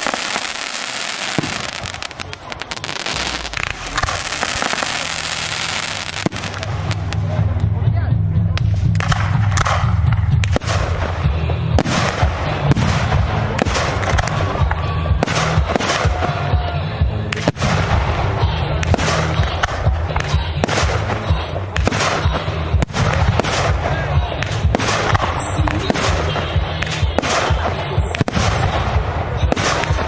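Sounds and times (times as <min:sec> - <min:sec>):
fireworks bursting: 0:00.0 - 0:07.7, 0:08.6 - 0:30.0.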